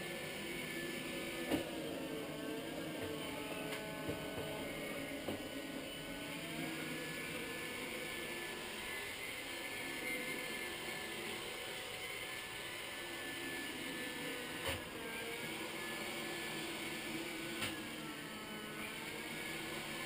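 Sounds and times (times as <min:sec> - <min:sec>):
robotic floor mop motor whir: 0:00.0 - 0:20.0.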